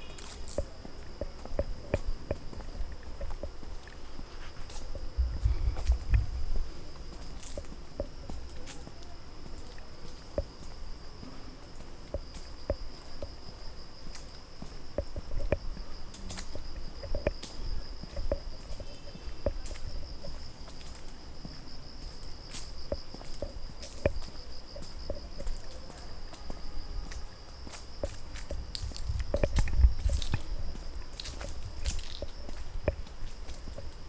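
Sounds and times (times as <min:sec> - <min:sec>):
footsteps on trail: 0:00.0 - 0:34.0
insects trilling: 0:00.0 - 0:34.0.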